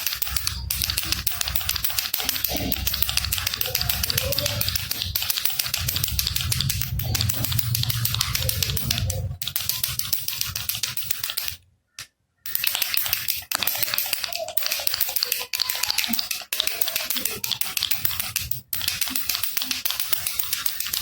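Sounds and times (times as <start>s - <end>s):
baby rattle shaken: 0.0s - 11.6s, 12.5s - 21.0s.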